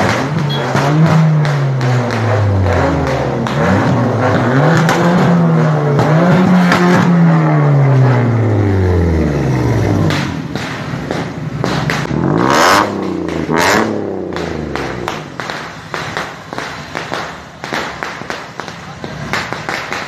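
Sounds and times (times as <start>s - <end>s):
car engine revving: 0.0s - 17.8s.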